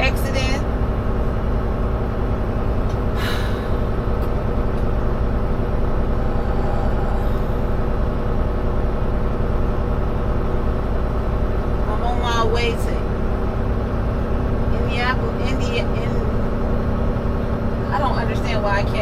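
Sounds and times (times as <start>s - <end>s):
truck engine and road drone: 0.0s - 19.0s.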